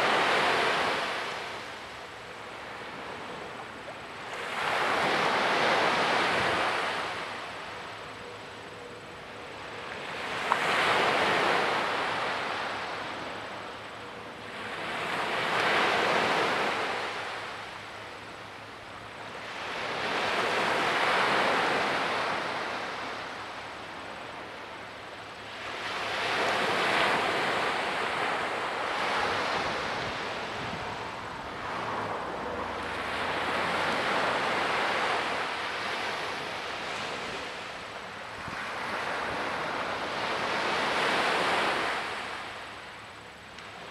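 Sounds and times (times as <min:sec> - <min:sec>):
small waves breaking on beach: 0:00.0 - 0:08.2, 0:09.7 - 0:43.9.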